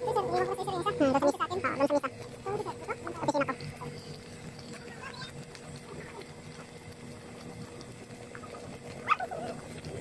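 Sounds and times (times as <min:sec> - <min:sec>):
thick sauce bubbling and popping: 0:00.0 - 0:10.0.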